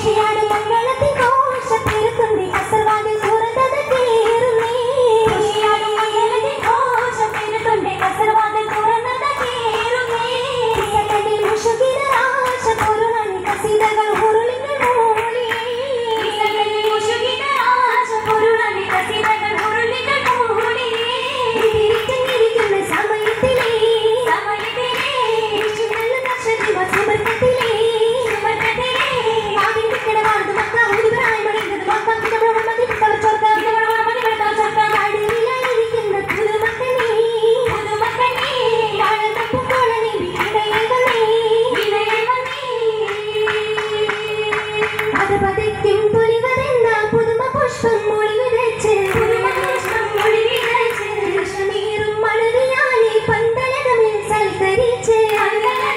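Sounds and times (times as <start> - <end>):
rhythmic hand claps: 0.0 - 55.9
woman singing: 0.0 - 55.9.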